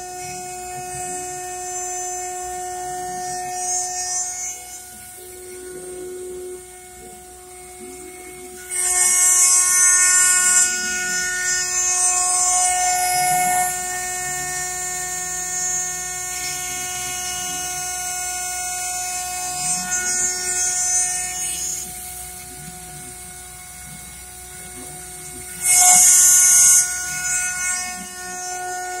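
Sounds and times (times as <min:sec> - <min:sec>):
hissing screech of metal cutting: 0:00.0 - 0:29.0
milling machine whine: 0:00.0 - 0:29.0.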